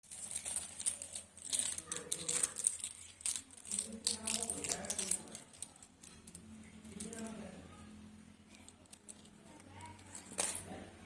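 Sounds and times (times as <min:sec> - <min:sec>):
plastic capsules clicking and rattling: 0:00.0 - 0:07.4, 0:08.5 - 0:10.7.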